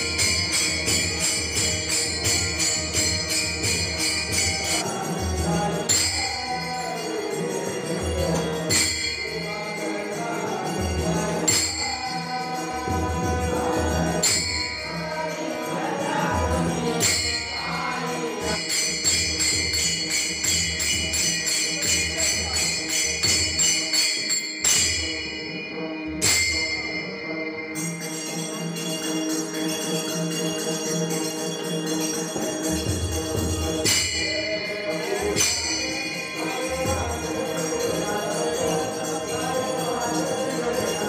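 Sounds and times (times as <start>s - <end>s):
group singing: 0.0s - 25.3s, 32.3s - 41.0s
hand cymbals clashing: 0.0s - 41.0s.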